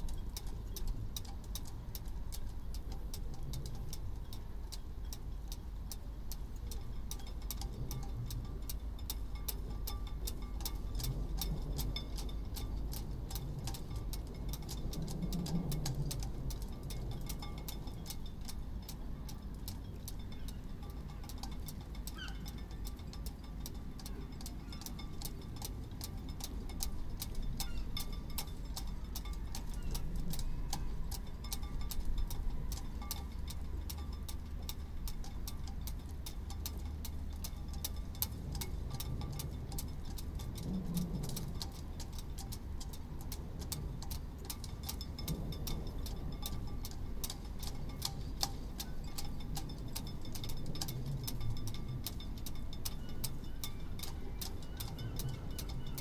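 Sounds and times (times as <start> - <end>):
halyards clinking against masts: 0.0 - 56.0
low wind rumble: 0.0 - 56.0.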